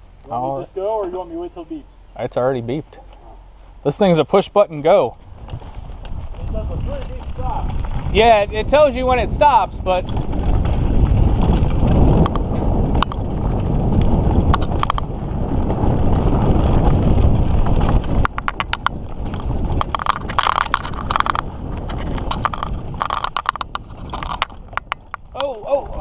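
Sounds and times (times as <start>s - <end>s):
bike tyres rolling on dirt: 0.0s - 26.0s
bike clicking and rattling: 3.9s - 26.0s
wind buffeting microphone: 4.8s - 26.0s.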